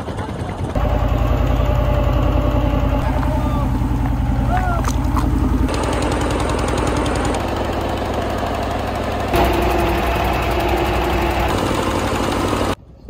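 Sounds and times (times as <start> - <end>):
boat engine throbbing: 0.0 - 12.8
water churning: 0.7 - 12.8.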